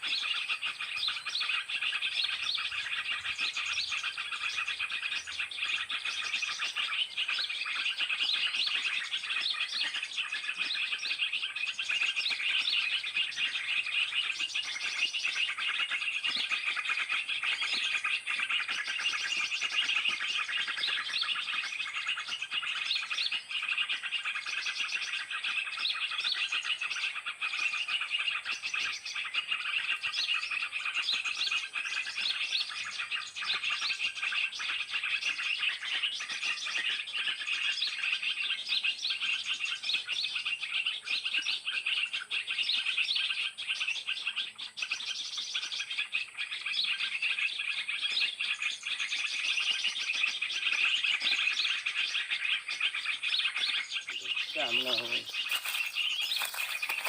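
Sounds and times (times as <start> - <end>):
many small birds chirping: 0.0 - 57.0.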